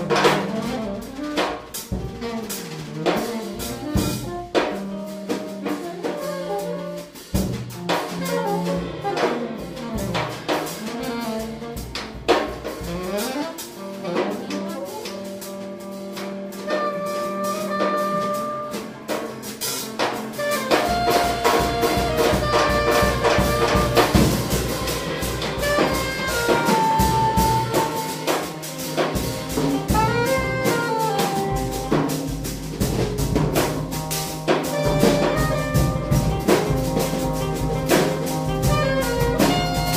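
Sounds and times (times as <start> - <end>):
saxophone playing: 0.0 - 19.2, 20.3 - 39.9
drum kit cymbal and drum strokes: 0.0 - 39.9.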